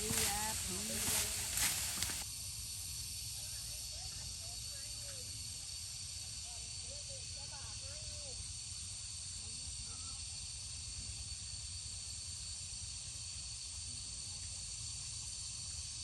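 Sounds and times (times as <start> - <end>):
insect chorus droning: 0.0 - 16.0.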